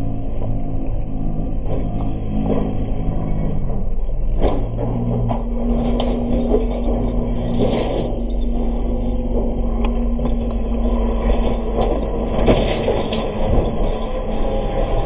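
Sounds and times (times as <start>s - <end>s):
engine running loud: 0.0s - 15.0s.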